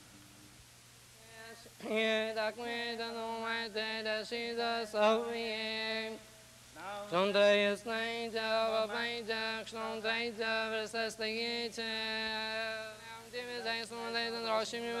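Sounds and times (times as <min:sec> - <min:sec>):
man chanting: 0:01.3 - 0:06.2, 0:06.8 - 0:15.0.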